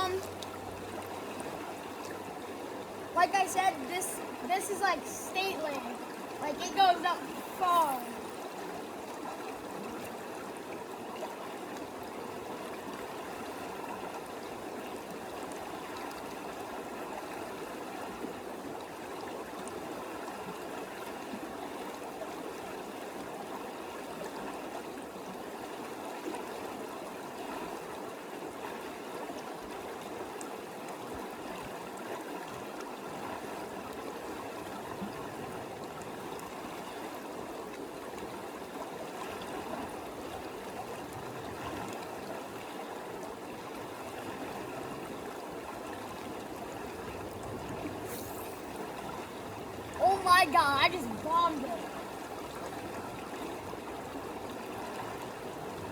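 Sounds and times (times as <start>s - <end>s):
creek water flowing over rocks: 0.0s - 55.9s.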